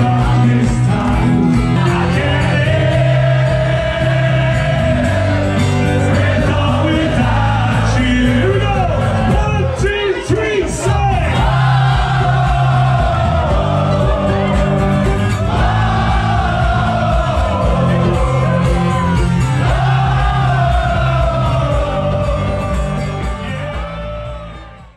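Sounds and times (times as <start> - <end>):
singer holding long phrases: 0.0 - 24.7
steady bass notes: 0.0 - 24.9.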